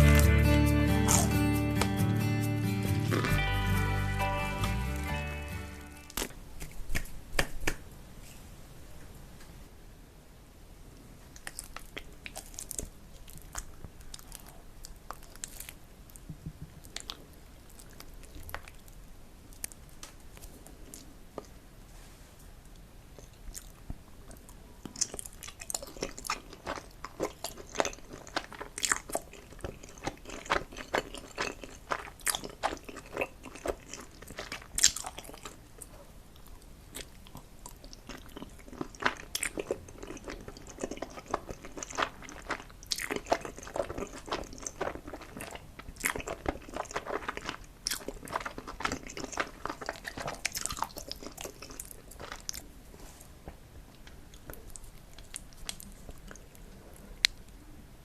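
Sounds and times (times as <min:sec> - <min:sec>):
person chewing crunchy food: 0:00.0 - 0:06.8, 0:11.4 - 0:21.6, 0:23.1 - 0:52.8, 0:54.0 - 0:57.4.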